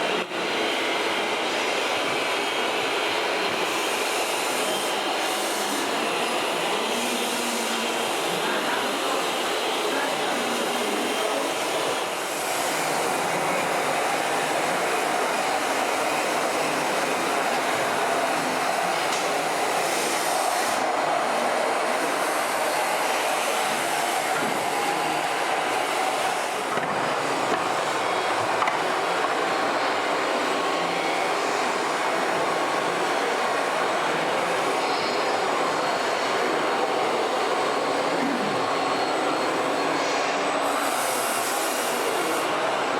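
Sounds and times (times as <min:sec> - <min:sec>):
noisy background: 0:00.0 - 0:42.9.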